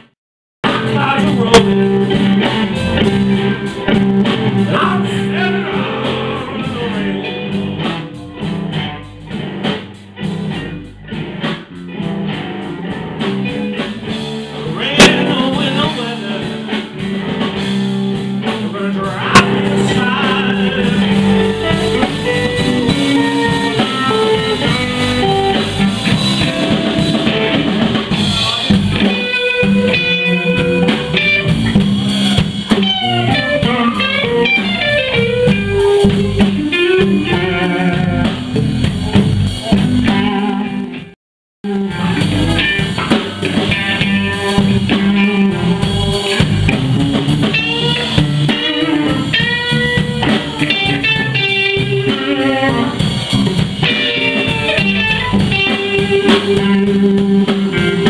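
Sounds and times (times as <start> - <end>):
drum kit: 0.0 - 58.0
electric guitar lead lines: 0.6 - 58.0.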